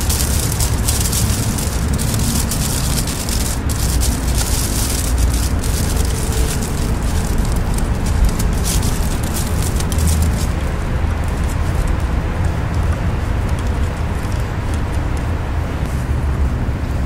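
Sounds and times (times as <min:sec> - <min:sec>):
aluminium foil crinkling: 0:00.0 - 0:15.4
steady low rumble: 0:00.0 - 0:17.0.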